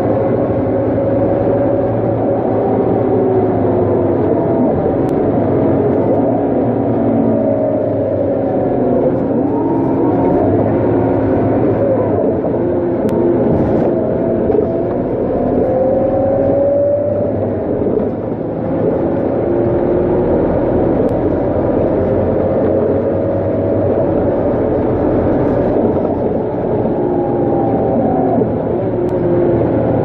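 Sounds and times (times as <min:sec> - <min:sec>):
bus engine whine accelerating: 0:00.0 - 0:30.0.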